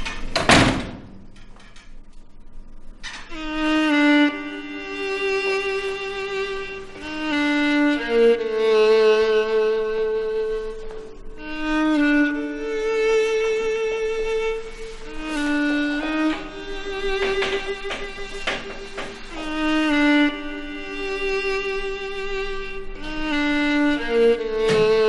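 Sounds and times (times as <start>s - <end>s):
slow violin melody: 3.1s - 25.0s
sustained low strings: 3.3s - 25.0s.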